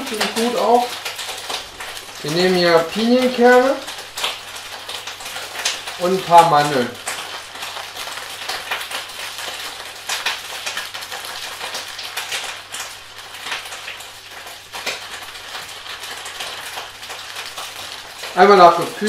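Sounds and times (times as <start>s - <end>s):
peppers sizzling in a frying pan: 0.0s - 19.0s.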